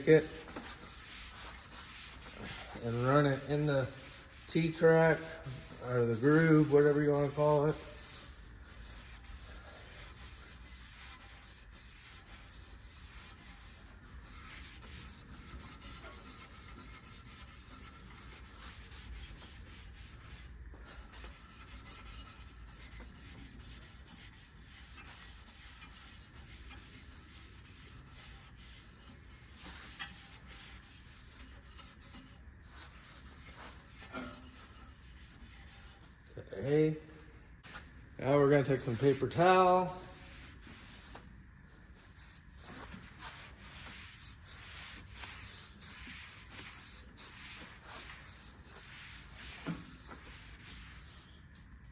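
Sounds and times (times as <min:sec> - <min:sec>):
abrasive pad scrubbing metal: 0:00.0 - 0:36.1, 0:38.2 - 0:41.2, 0:42.0 - 0:51.3.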